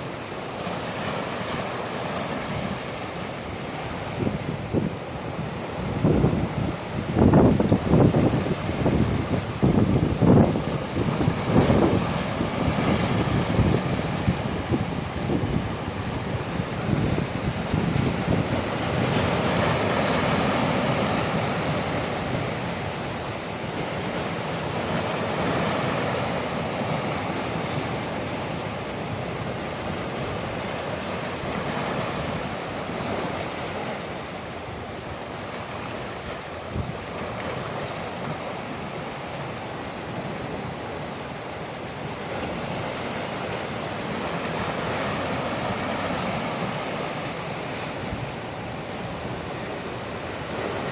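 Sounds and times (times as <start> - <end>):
ocean waves washing ashore: 0.0 - 50.9
wind blowing: 1.7 - 50.9.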